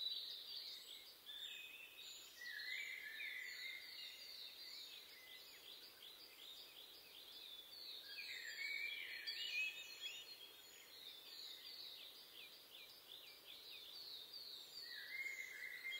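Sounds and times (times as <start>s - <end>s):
small songbirds singing: 0.0s - 15.9s.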